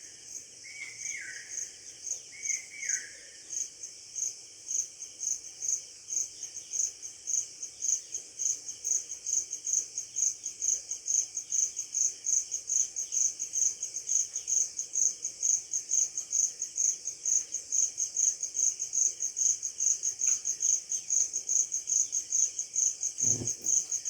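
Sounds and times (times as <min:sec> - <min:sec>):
cricket chirping: 0:00.1 - 0:24.0.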